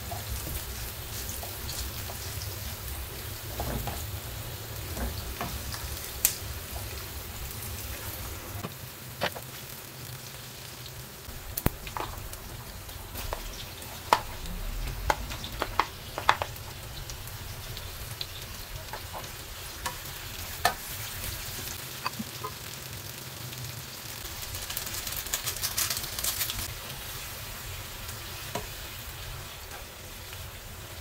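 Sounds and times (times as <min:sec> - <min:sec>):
meat crackling in hot pan: 0:00.0 - 0:31.0
onions sizzling in frying pan: 0:00.0 - 0:31.0.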